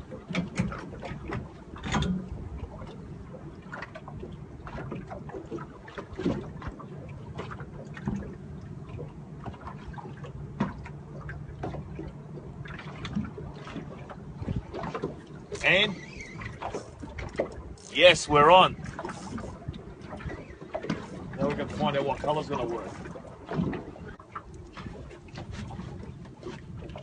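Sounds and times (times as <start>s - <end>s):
water lapping against boat hull: 0.0s - 27.0s.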